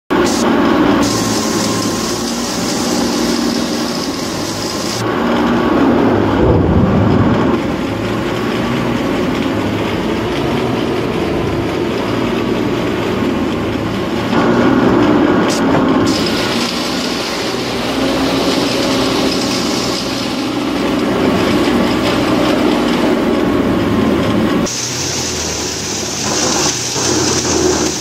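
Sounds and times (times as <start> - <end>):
diesel engines humming: 0.1 - 28.0
wood chipper chipping logs: 0.1 - 28.0.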